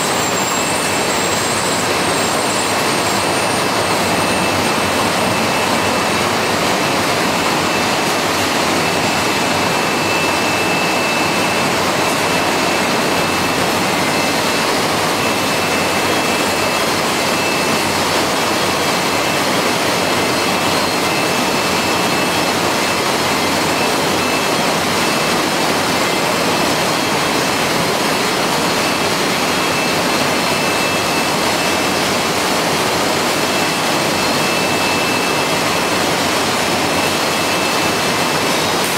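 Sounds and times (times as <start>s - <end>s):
processing line machinery: 0.0s - 38.9s.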